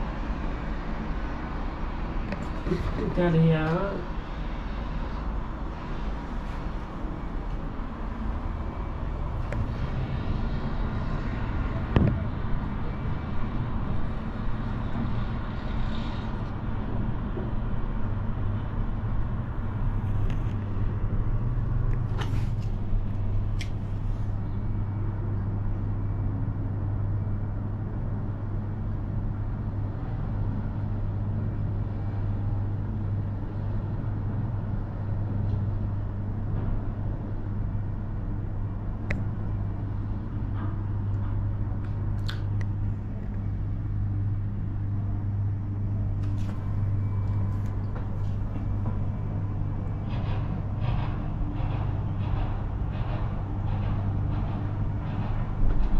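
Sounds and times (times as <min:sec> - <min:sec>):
cable car hum and rumble: 0:00.0 - 0:55.9.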